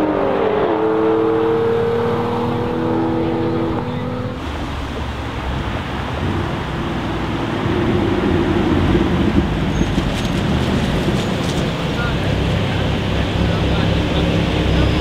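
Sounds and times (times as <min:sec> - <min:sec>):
car engines rumbling at low revs: 0:00.0 - 0:15.0.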